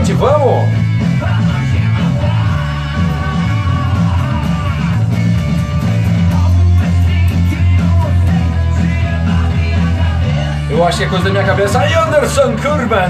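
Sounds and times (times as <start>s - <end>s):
rock music with singing: 0.0s - 13.0s.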